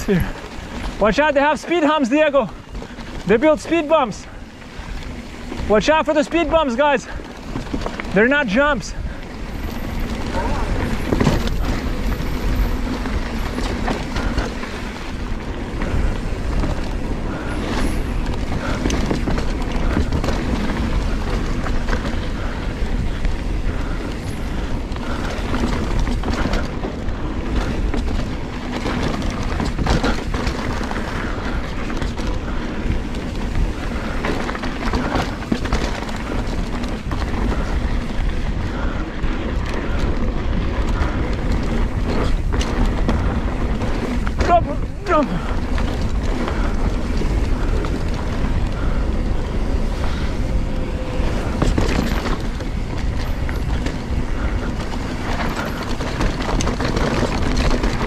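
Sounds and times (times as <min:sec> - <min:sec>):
bike clattering over bumps: 0:00.0 - 0:58.0
bike tyres rumbling on dirt: 0:00.0 - 0:58.0.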